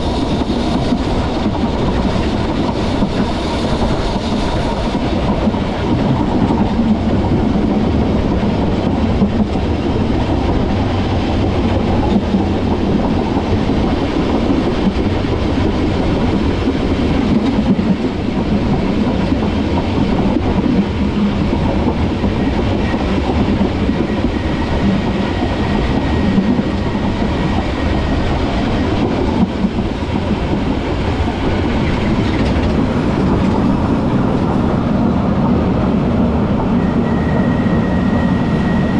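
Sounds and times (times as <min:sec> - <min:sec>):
tram wheels rumbling on rails: 0:00.0 - 0:38.9.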